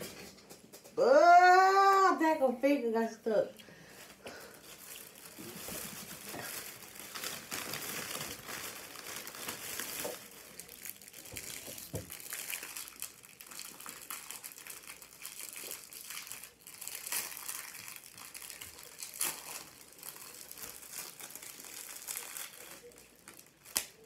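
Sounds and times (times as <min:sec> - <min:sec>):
sharp wrapper crackle: 0:04.4 - 0:24.0
snack wrapper crinkling: 0:04.4 - 0:24.0.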